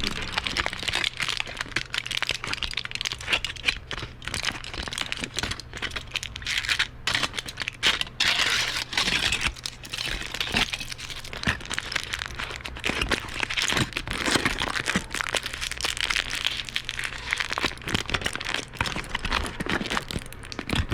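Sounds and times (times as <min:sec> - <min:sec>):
aluminium foil crumpling: 0:00.0 - 0:20.9
faint steady hum: 0:00.0 - 0:20.9.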